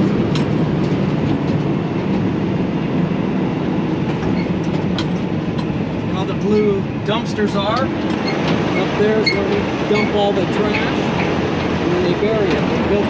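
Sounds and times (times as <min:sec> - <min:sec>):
road rumble: 0:00.0 - 0:13.0
truck engine drone: 0:00.0 - 0:13.0.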